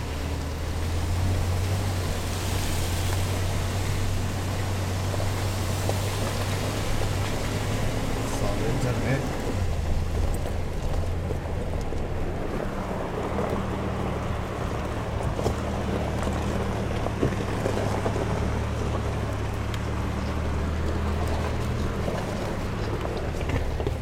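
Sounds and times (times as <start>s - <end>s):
low engine hum: 0.0s - 24.0s
tyres rushing on gravel: 0.0s - 24.0s.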